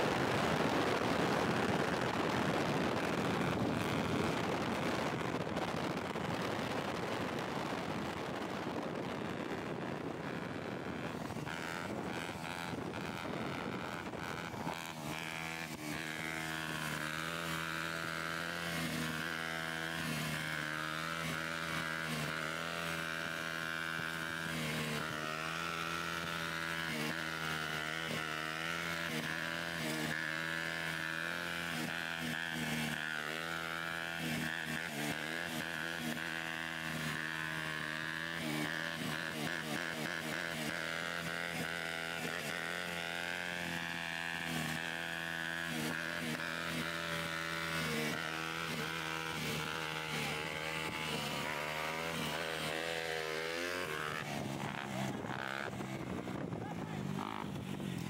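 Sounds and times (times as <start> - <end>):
dirt bike engine running: 0.0 - 58.0
wind and road noise: 0.0 - 58.0.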